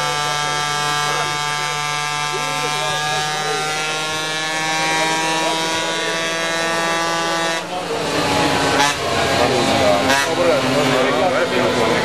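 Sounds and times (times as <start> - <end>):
sharp engine burst: 0.0 - 11.8
motorcycle engine whining: 0.0 - 12.0.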